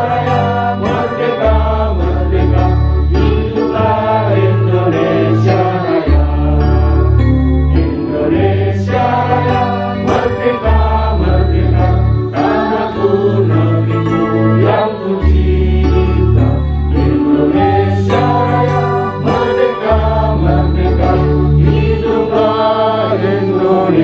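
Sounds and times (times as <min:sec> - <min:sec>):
choir-like singing: 0:00.0 - 0:24.0
long held bass notes: 0:00.0 - 0:24.0.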